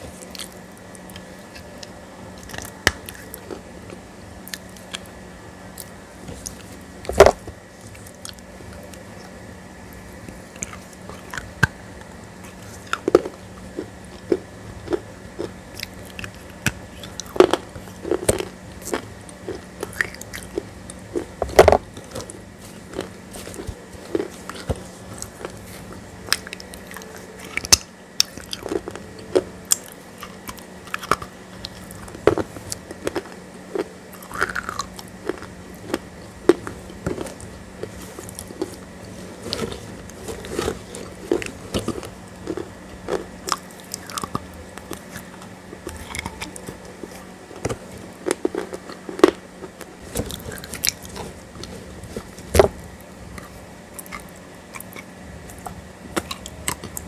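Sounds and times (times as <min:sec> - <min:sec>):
person chewing and crunching: 0:00.0 - 0:05.1, 0:05.8 - 0:09.3, 0:10.3 - 0:57.0
steady low hum: 0:00.0 - 0:57.0.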